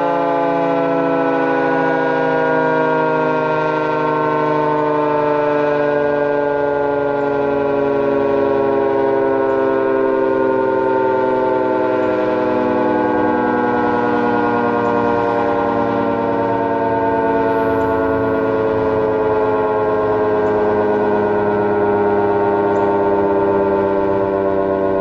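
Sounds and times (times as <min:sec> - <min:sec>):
three-tone warning siren: 0:00.0 - 0:25.0.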